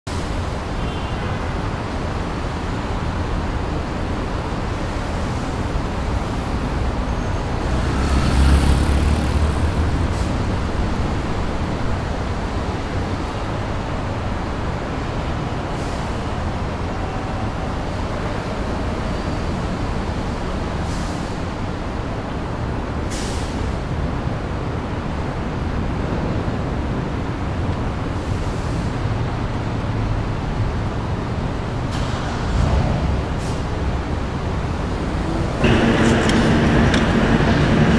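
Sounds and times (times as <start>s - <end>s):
passing cars: 1.4s - 37.9s.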